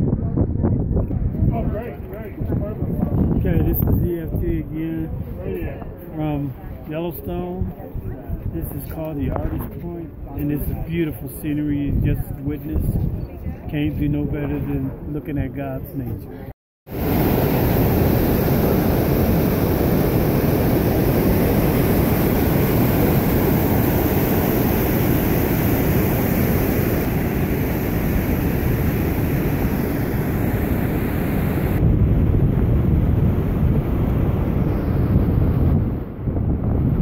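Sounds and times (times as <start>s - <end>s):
wind on microphone: 0.0s - 37.0s.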